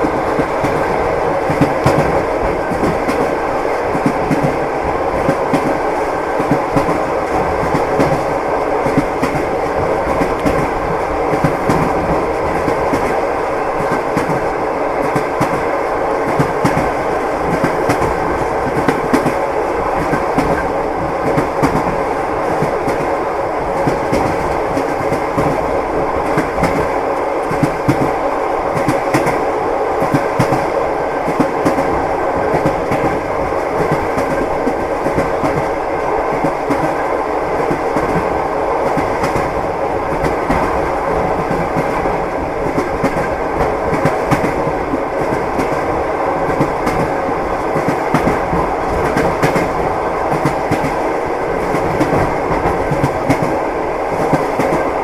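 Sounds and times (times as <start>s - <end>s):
train wheels clattering: 0.0s - 55.0s.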